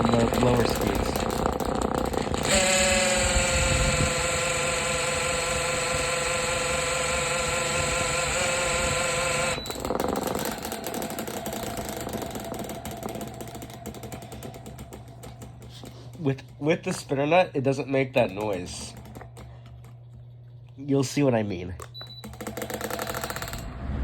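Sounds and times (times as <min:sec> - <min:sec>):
electric fan buzzing: 0:00.0 - 0:24.0
fan rattling whir: 0:00.0 - 0:24.0.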